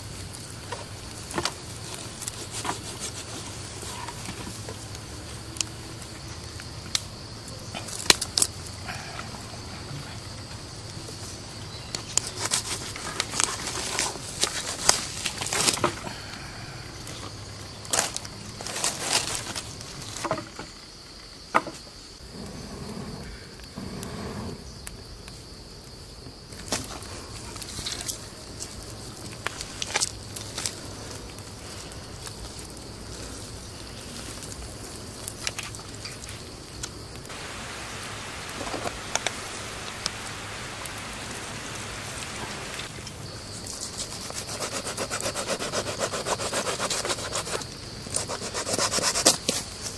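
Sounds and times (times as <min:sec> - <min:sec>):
high insect buzz: 0:00.0 - 0:49.9
steady hiss: 0:00.0 - 0:49.9.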